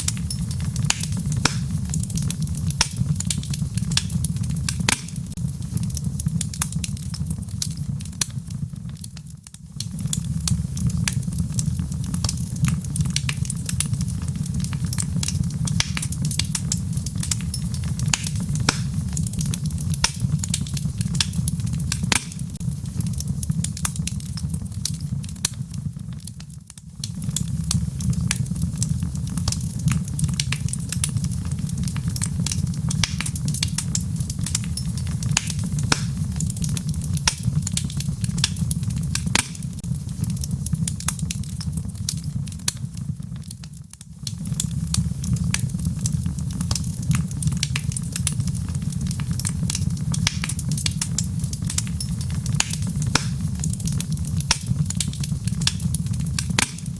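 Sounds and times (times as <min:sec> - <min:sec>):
logs crackling in fireplace: 0:00.0 - 0:56.9
low rumble of flames: 0:00.0 - 0:56.9.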